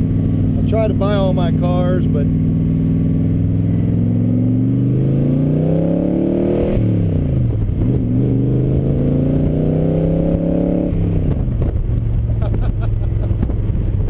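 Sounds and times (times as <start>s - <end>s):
car engine accelerating hard: 0.0s - 14.0s
engine upshifts: 0.0s - 14.0s.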